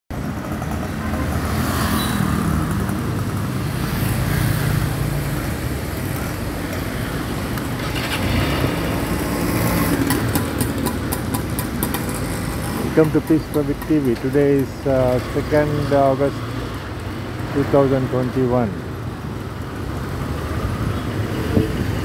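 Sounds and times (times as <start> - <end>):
vehicles passing on street: 0.1 - 22.0.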